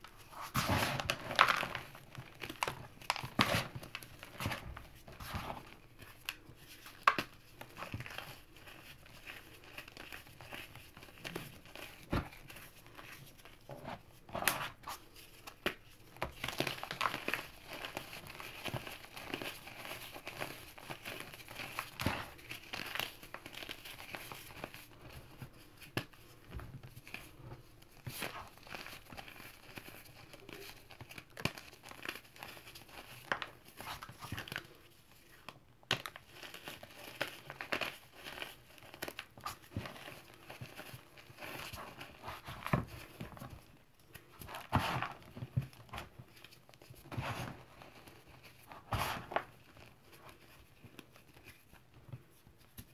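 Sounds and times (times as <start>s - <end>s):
fingers crumbling damp powder: 0.0s - 52.9s.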